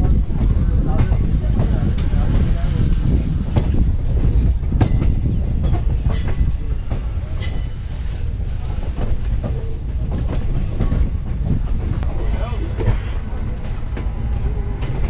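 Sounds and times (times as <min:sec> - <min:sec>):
train wheels rumbling on rails: 0:00.0 - 0:15.0
wheels clacking over rail joints: 0:00.0 - 0:15.0.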